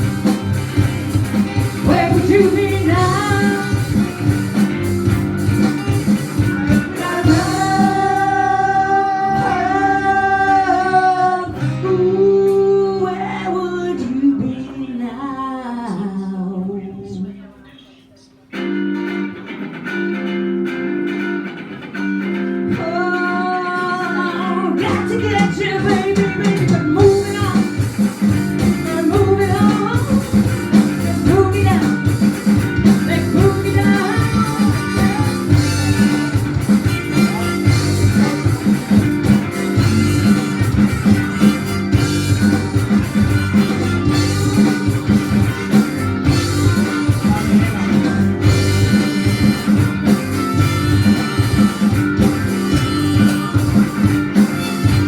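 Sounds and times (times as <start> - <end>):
bluesy rock band playing: 0.0 - 15.3, 18.4 - 55.0
bending lead guitar line: 0.0 - 17.2, 18.4 - 55.0.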